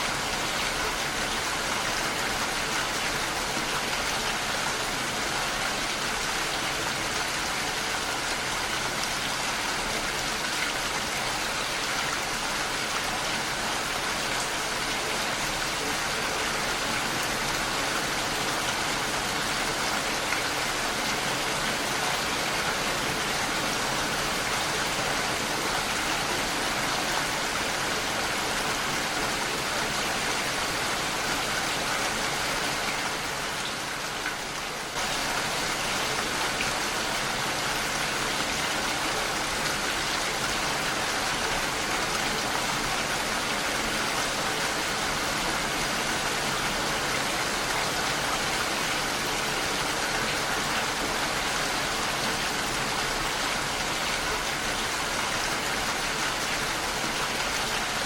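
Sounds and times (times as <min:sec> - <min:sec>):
heavy rain on a window: 0:00.0 - 0:58.0.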